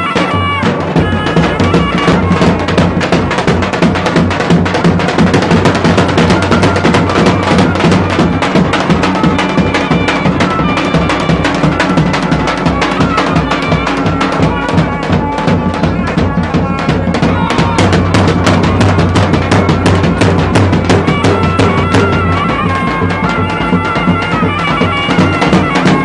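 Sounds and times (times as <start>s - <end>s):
bass drum beat: 0.0s - 26.0s
shawms playing folk melody: 0.0s - 26.0s.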